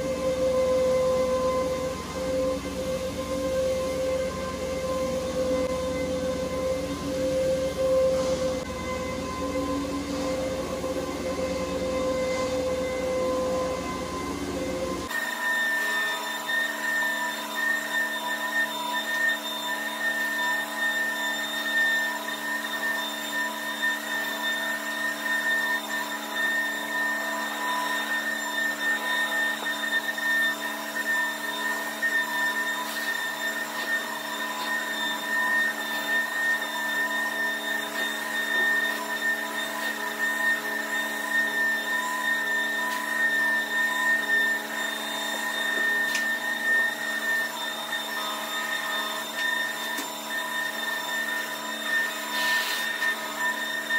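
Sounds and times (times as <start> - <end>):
carpet-cleaning machine whining: 0.0 - 53.9.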